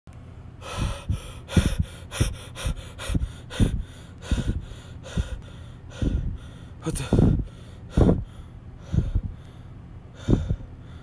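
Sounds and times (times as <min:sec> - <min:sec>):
man panting: 0:00.6 - 0:11.0.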